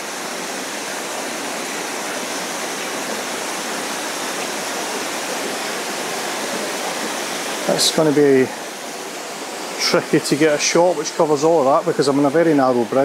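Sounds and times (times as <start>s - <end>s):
waterfall pouring over rocks: 0.0s - 13.0s.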